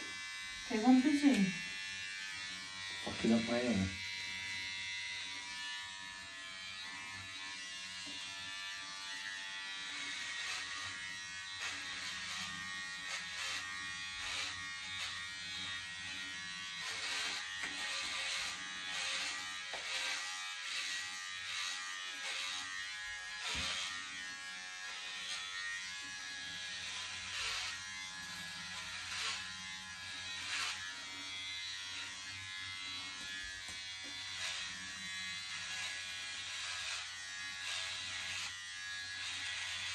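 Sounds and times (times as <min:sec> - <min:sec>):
clipper blades rasping hair: 0:00.0 - 0:39.9
electric hair clippers buzzing: 0:00.0 - 0:39.9.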